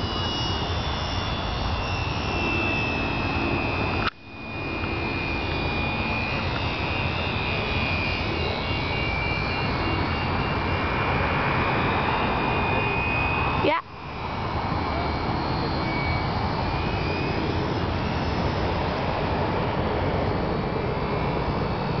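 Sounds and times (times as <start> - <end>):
model plane motor whine: 0.0 - 22.0.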